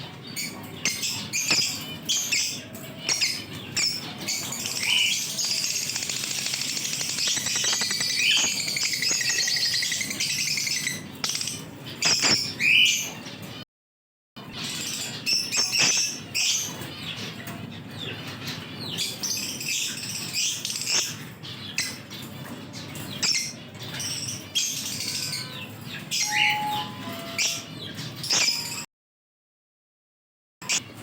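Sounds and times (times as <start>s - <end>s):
lovebirds chirping and squawking: 0.0s - 13.6s, 14.6s - 28.9s.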